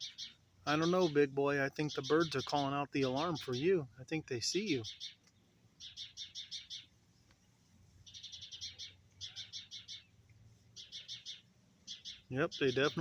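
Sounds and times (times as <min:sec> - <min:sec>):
birds chattering alarm calls: 0:00.0 - 0:07.0, 0:08.0 - 0:13.0.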